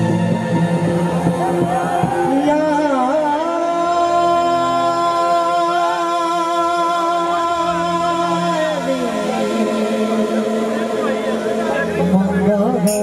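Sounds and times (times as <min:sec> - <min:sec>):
harmonium drone: 0:00.0 - 0:13.0
man singing long note: 0:00.0 - 0:13.0.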